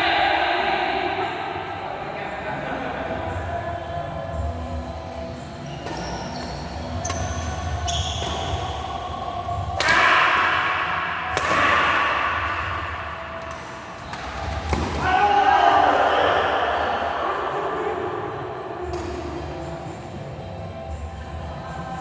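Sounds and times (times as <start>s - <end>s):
crowd din in sports hall: 0.0s - 22.0s.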